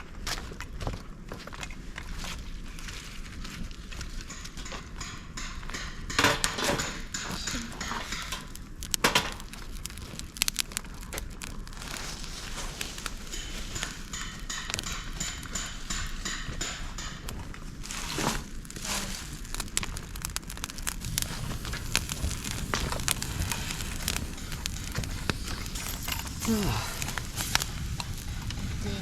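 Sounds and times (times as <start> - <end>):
bamboo and twigs fire crackling: 0.0 - 29.0.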